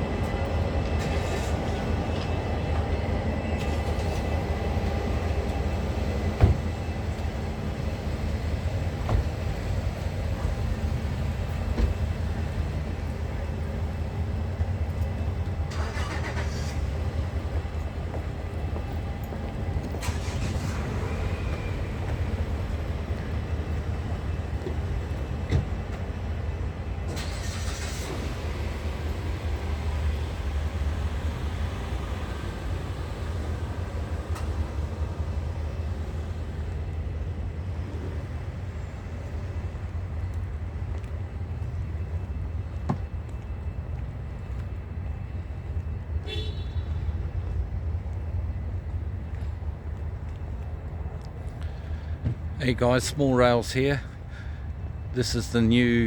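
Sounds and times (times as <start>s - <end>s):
diesel train engine rumble: 0.0s - 56.0s.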